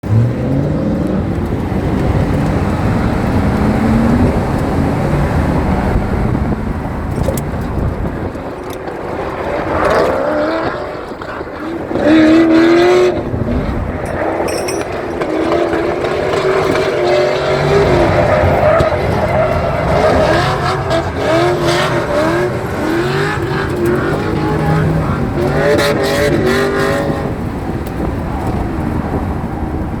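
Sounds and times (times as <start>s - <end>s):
car engine revving hard: 0.0s - 7.4s, 9.5s - 30.0s
tyre and road noise: 0.0s - 30.0s.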